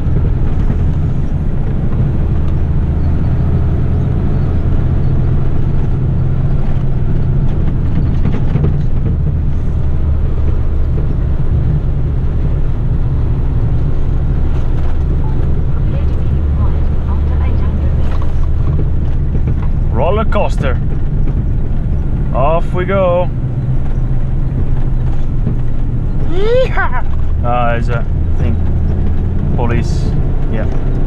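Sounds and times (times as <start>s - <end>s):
truck diesel engine pulling hard: 0.0s - 31.0s.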